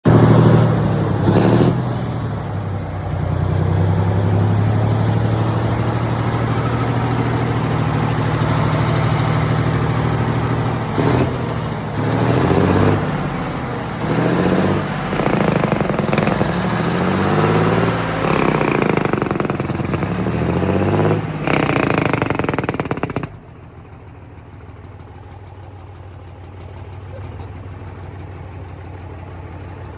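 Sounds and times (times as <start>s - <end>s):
diesel truck engine revving: 0.0s - 25.1s.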